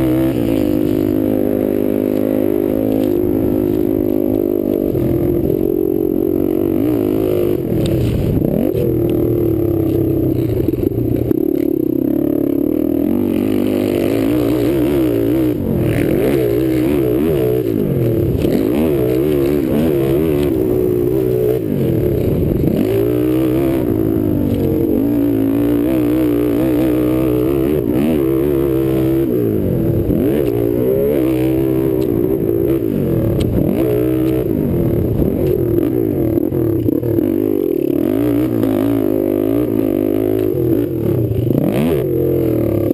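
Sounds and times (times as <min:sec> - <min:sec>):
quad engine revving hard: 0:00.0 - 0:42.9.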